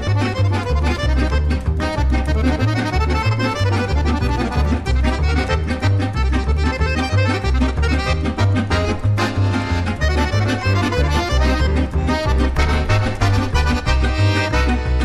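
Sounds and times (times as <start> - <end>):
instrumental music: 0.0 - 15.0.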